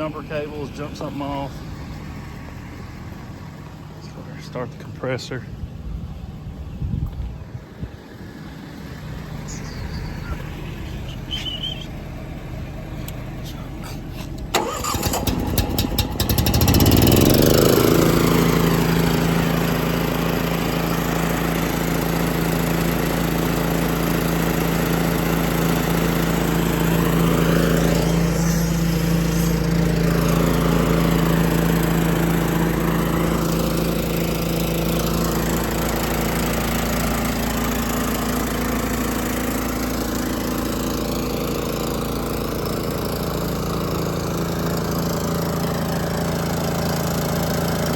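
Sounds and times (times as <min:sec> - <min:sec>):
air compressor running: 0:07.8 - 0:47.9.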